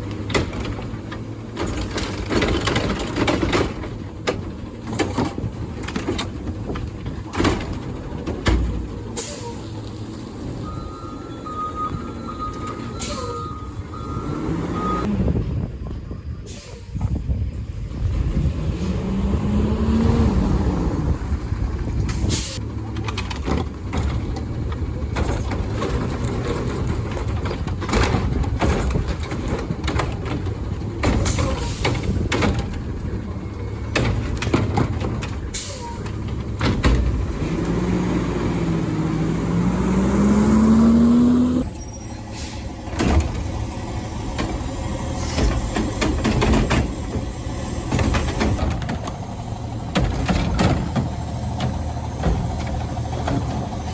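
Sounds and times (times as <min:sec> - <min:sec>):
garbage truck engine revving: 0:00.0 - 0:15.6, 0:18.0 - 0:41.7, 0:42.3 - 0:53.9.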